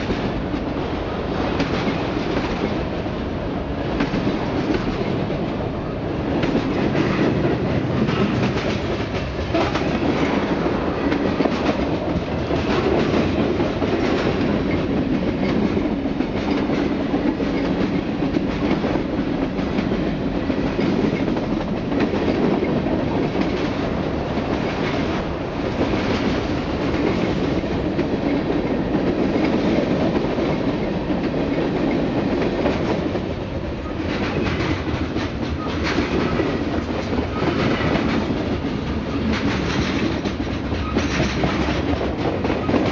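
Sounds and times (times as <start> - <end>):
freight train rolling past: 0.0 - 42.9
wheels clickety-clack on rails: 0.0 - 42.9.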